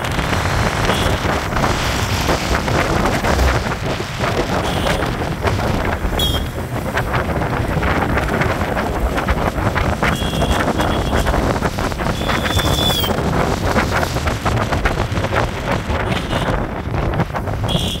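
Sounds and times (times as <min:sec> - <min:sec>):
motorcycle engine and road noise: 0:00.0 - 0:18.0
wind buffeting microphone: 0:00.0 - 0:18.0.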